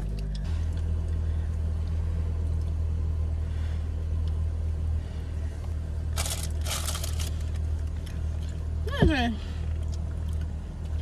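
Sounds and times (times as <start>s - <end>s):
car engine rumble from inside: 0.0s - 11.0s.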